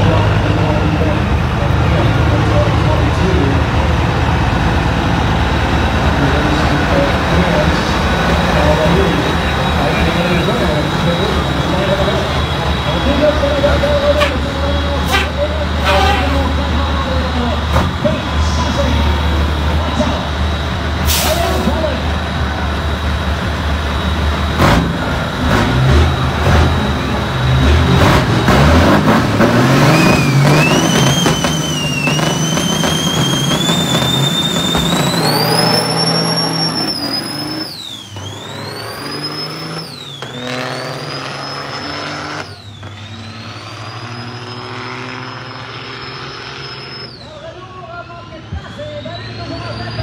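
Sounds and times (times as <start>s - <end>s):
diesel truck accelerating: 0.0s - 50.0s.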